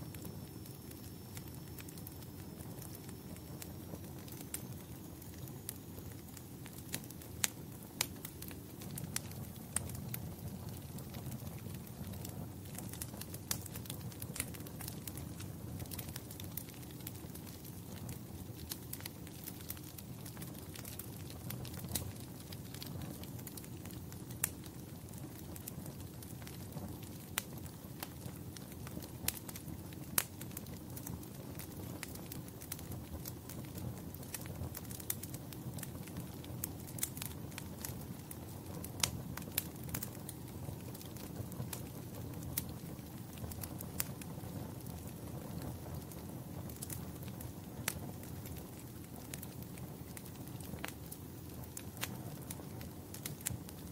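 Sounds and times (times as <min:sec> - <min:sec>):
fireplace fire crackling: 0:00.0 - 0:53.9.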